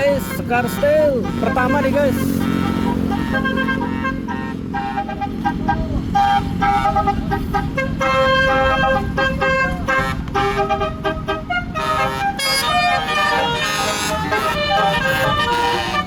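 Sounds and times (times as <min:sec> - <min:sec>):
bus engine rumble: 0:00.0 - 0:16.0
bus horn playing a tune: 0:00.0 - 0:16.0.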